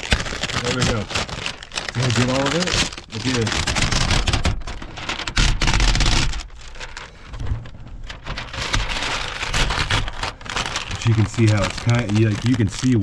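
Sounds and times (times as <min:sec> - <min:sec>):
window film crackling as peeled: 0:00.0 - 0:13.0.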